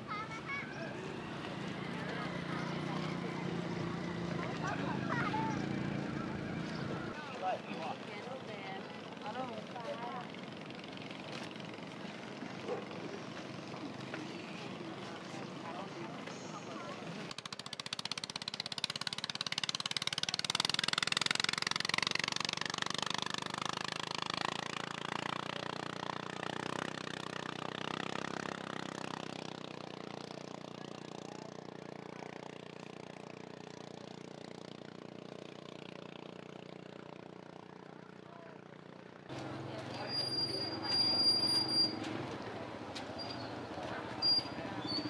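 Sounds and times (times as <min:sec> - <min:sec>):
small engine chattering past: 0:00.2 - 0:45.0.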